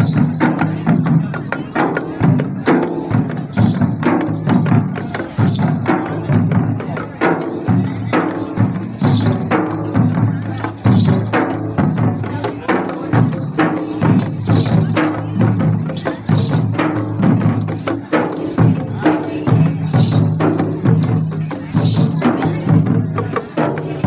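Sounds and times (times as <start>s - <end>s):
barrel drums beaten in rhythm: 0.0s - 24.0s
metallic jingling: 0.0s - 24.0s.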